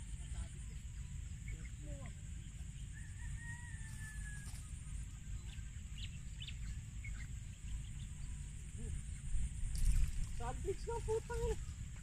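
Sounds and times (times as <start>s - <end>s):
bird chirps: 0.0s - 10.1s.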